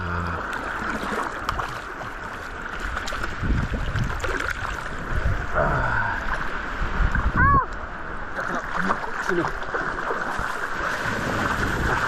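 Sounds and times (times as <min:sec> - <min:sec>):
sea water sloshing and lapping: 0:00.0 - 0:12.0
splashes of people wading: 0:00.3 - 0:05.2, 0:06.2 - 0:12.0.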